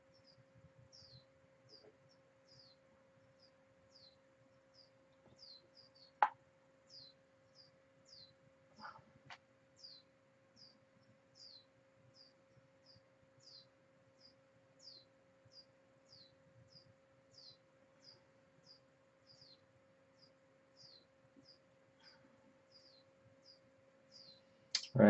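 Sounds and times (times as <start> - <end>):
faint high chirping: 0.0 - 25.0
low electrical hum: 0.0 - 25.0.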